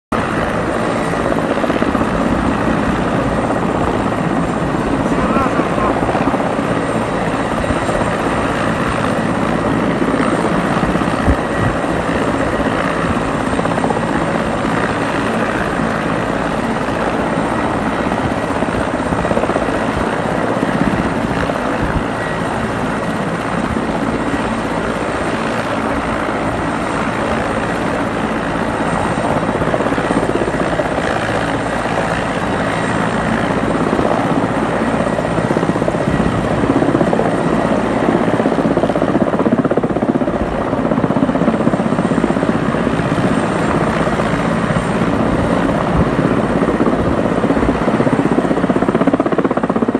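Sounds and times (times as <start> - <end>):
helicopter engine and rotor noise: 0.1 - 49.9
high turbine whine: 0.1 - 49.9.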